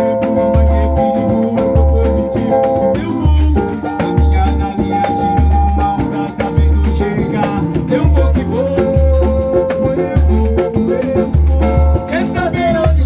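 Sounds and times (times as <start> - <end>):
deep drum beat: 0.0 - 13.0
samba music: 0.0 - 13.0.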